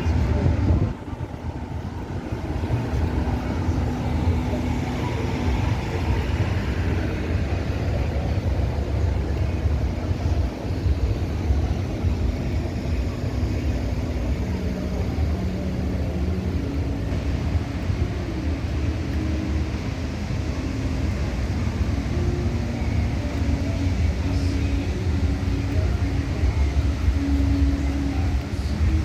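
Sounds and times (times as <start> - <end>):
faint droning engine hums: 0.0 - 29.0
low rumble of passing traffic: 0.0 - 29.0.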